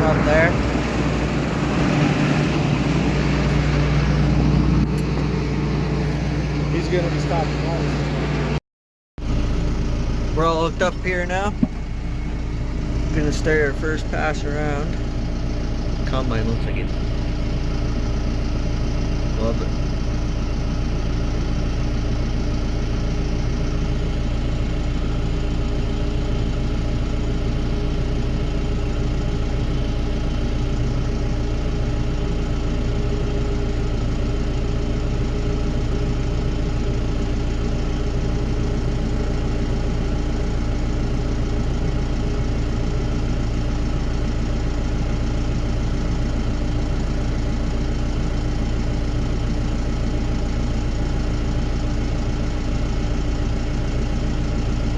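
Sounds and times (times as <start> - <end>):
diesel engine droning: 0.0 - 8.6, 9.2 - 54.9.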